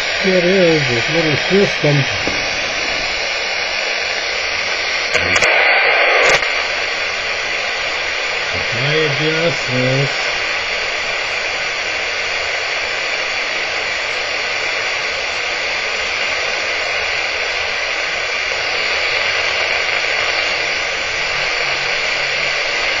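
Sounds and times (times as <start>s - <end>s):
detector alarm steady hiss: 0.0s - 23.0s.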